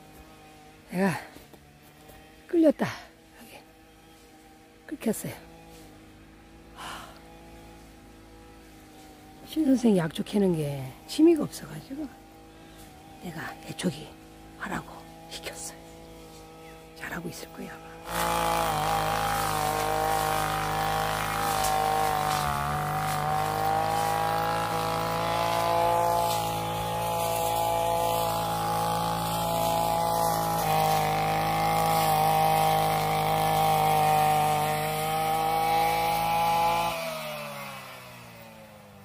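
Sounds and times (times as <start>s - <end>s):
brush cutter engine cutting grass: 0.0s - 39.0s.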